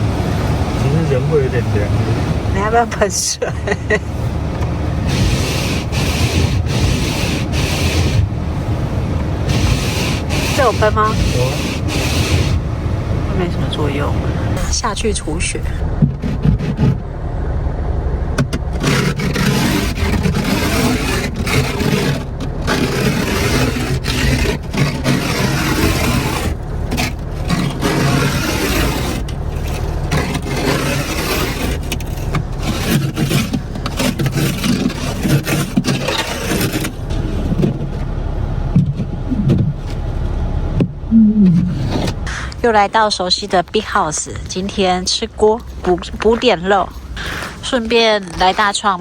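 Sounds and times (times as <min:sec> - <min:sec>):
scraper scraping ice off car: 0:00.9 - 0:12.7, 0:13.3 - 0:17.0, 0:18.4 - 0:38.1, 0:41.7 - 0:49.0.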